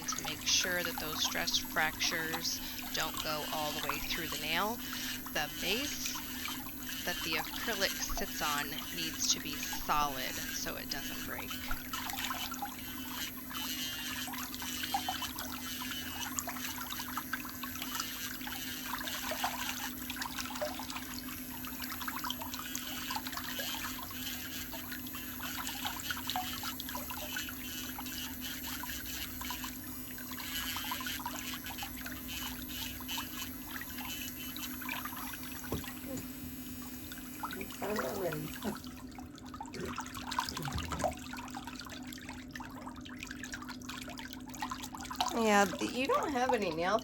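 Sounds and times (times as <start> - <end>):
electric nail file grinding toenail: 0.0 - 39.0, 45.3 - 46.8.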